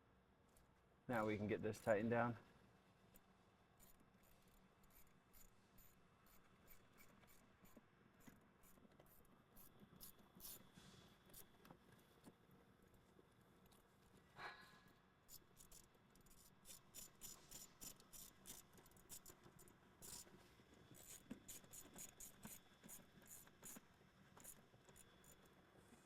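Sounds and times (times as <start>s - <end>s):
small clicks and scratches: 3.1s - 14.3s, 15.3s - 26.0s.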